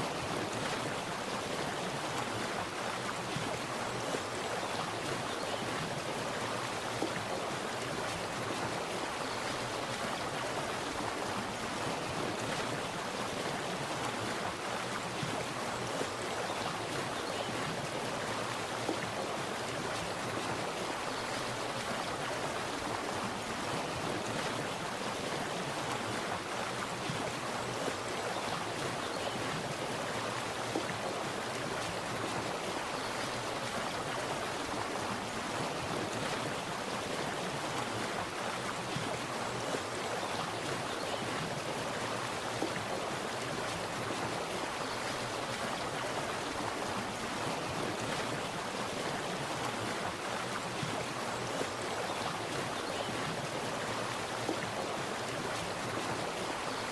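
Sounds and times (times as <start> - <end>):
water rushing steadily: 0.0 - 56.9.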